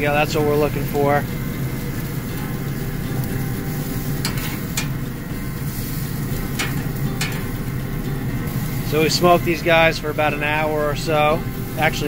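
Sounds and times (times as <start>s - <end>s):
low fan hum: 0.0s - 12.0s
skewers sizzling on grill: 0.0s - 12.0s.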